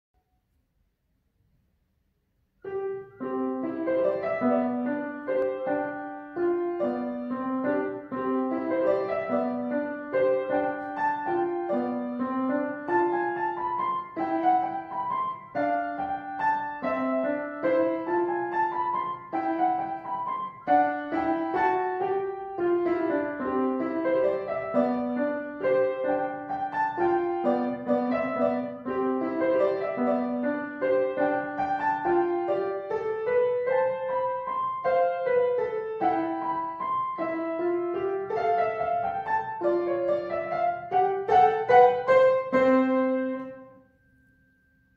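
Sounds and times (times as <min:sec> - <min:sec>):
acoustic piano playing: 0:02.6 - 0:44.9.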